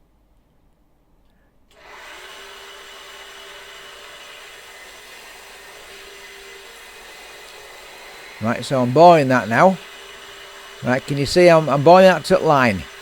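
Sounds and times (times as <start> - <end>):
drill press motor humming: 1.7 - 13.0.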